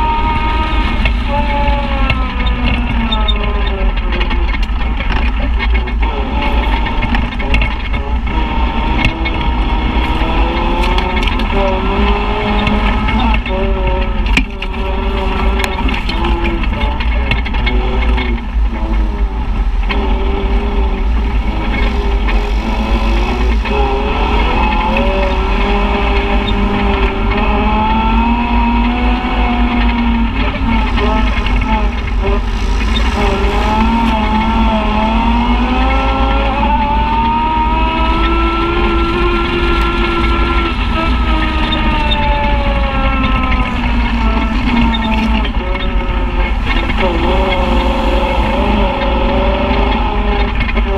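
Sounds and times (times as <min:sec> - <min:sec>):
utility vehicle engine rumbling: 0:00.0 - 0:50.9.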